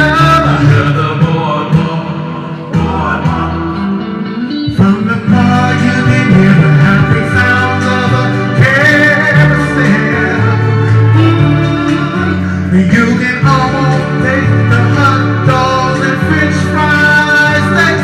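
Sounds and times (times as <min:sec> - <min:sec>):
instrumental accompaniment with bass: 0:00.0 - 0:18.0
man singing into a microphone: 0:00.0 - 0:18.0.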